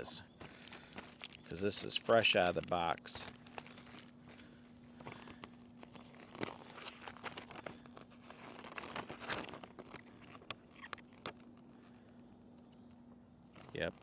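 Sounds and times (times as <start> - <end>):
faint steady hum: 0.0 - 14.0
hands rustling and handling things: 0.0 - 14.0.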